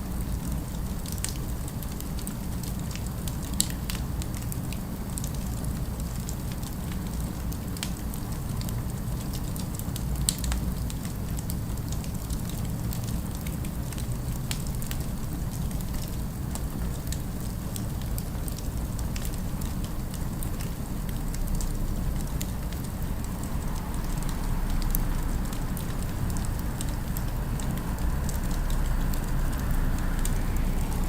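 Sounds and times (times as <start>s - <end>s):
fireplace fire crackling: 0.0s - 31.0s.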